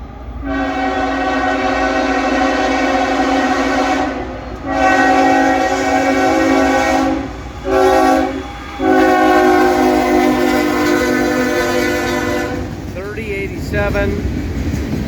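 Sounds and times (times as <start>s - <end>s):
locomotive air horn blasts: 0.4s - 12.8s.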